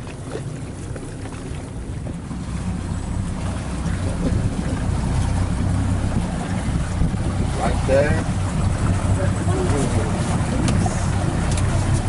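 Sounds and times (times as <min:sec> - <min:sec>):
motorboat engine droning: 0:00.0 - 0:12.0
wind buffeting microphone: 0:00.0 - 0:12.0.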